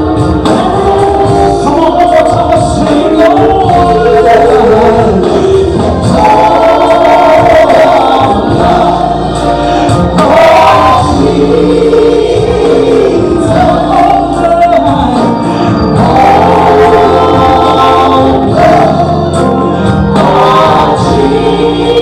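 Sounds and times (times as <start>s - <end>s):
gospel choir singing: 0.0s - 22.0s
instrumental accompaniment: 0.0s - 22.0s.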